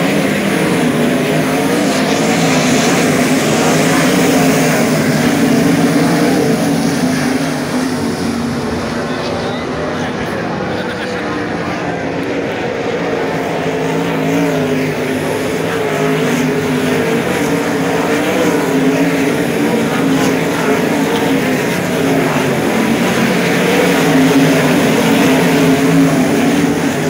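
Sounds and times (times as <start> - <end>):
racing car engines droning: 0.0 - 27.0.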